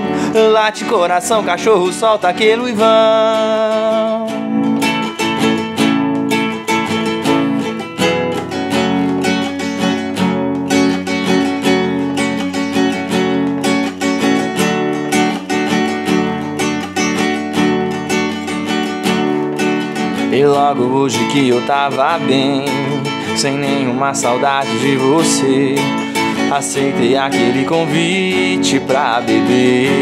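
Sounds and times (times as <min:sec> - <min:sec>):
classical guitar strummed chords: 0:00.0 - 0:30.0.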